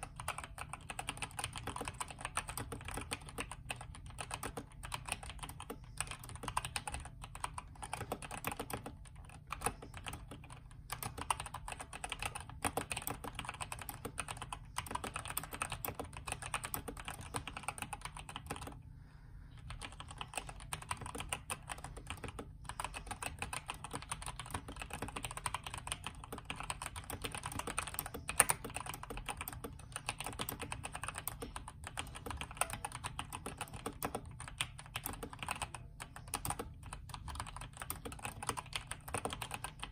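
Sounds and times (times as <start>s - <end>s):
mechanical keyboard typing: 0.0s - 18.8s, 19.6s - 39.9s.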